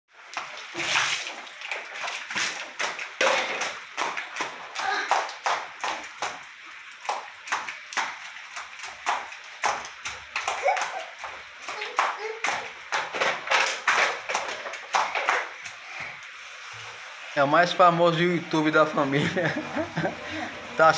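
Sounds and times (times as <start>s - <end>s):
water splashing on concrete floor: 0.1s - 20.9s.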